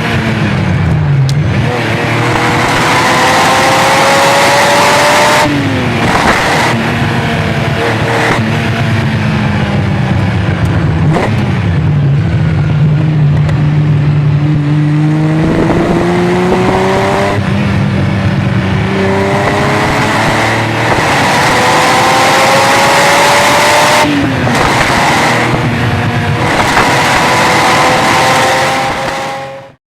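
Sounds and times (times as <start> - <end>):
car engine accelerating: 0.0 - 29.8.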